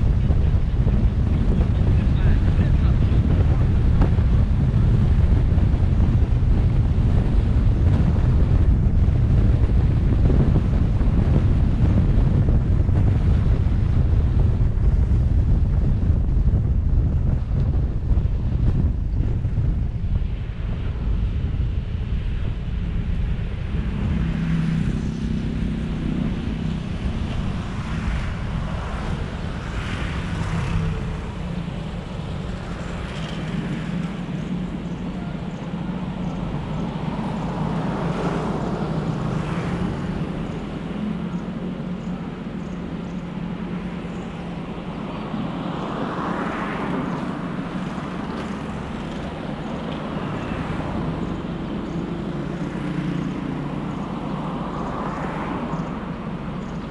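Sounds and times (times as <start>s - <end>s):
car engine and tyre noise: 0.0s - 56.9s
passing vehicles hissing: 0.0s - 56.9s.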